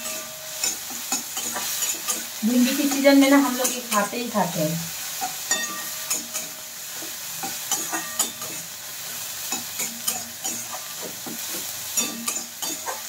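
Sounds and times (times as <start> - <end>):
spatula scraping and knocking pan: 0.0 - 4.1, 5.2 - 13.0
tomatoes sizzling in hot oil: 0.0 - 13.0.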